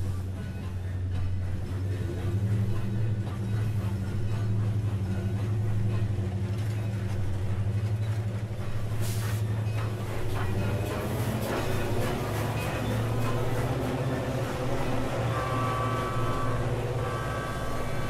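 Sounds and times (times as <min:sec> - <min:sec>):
low droning hum with flutter: 0:00.0 - 0:18.0.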